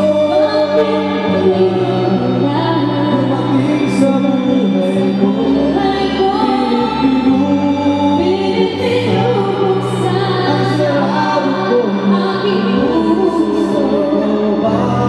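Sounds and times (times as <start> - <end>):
recorded backing track: 0.0 - 15.0
sustained bass notes: 0.0 - 15.0
woman singing into microphone: 0.0 - 15.0.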